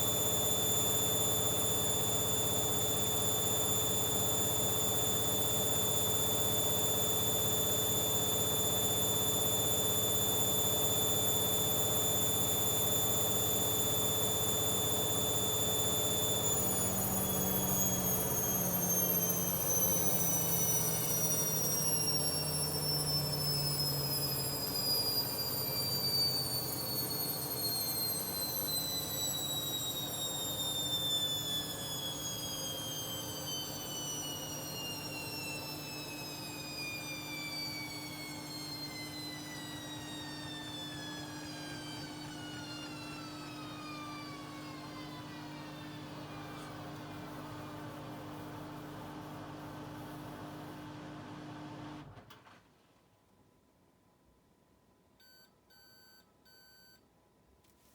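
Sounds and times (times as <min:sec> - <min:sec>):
washing machine motor whine: 0:00.0 - 0:52.2.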